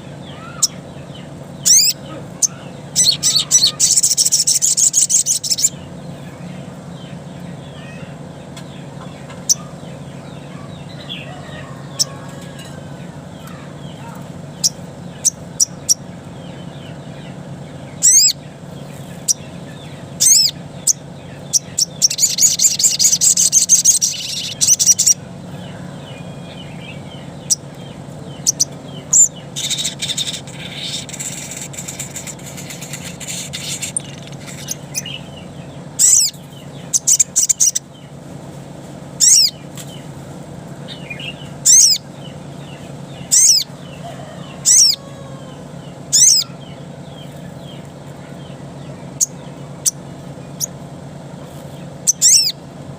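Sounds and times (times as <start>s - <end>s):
bird chirping and trilling: 0.0s - 38.2s, 39.1s - 40.1s, 40.8s - 52.8s
steady low hum: 0.0s - 52.9s.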